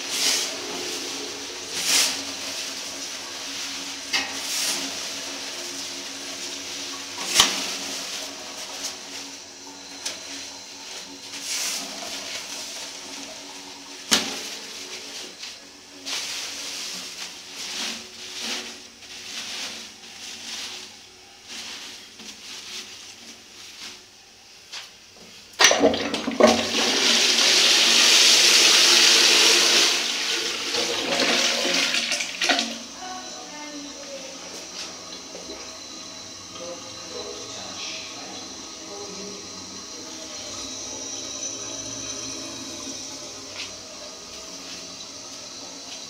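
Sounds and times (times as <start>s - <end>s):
toilet flushing: 0.0s - 23.4s, 25.5s - 46.0s.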